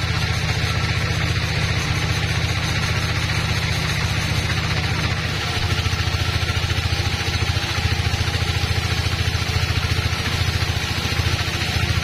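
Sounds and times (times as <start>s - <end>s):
band saw cutting timber: 0.0s - 12.0s.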